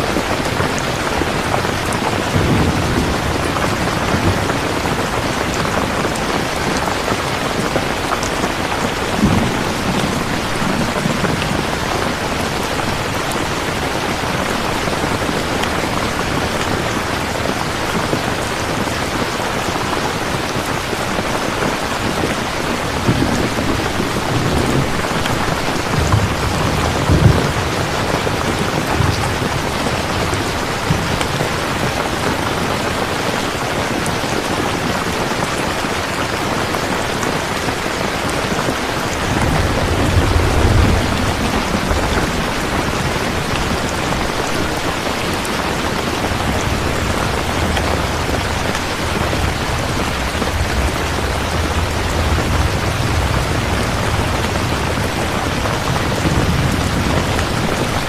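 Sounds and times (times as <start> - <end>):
heavy rain: 0.0 - 58.0
distant thunder rolls: 0.1 - 19.7, 20.6 - 33.2, 38.8 - 58.0.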